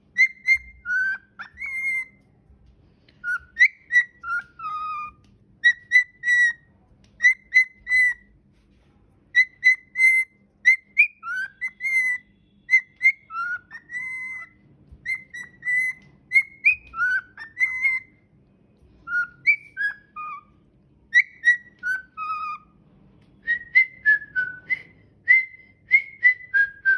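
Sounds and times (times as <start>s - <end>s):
cockatiel whistling: 0.1s - 2.2s, 3.2s - 8.3s, 9.3s - 18.2s, 19.0s - 22.7s, 23.4s - 26.9s.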